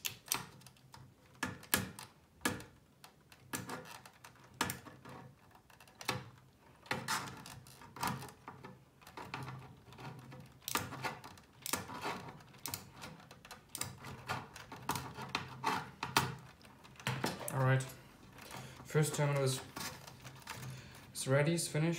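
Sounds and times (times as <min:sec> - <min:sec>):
metal plate and wires clicking: 0:00.0 - 0:21.2.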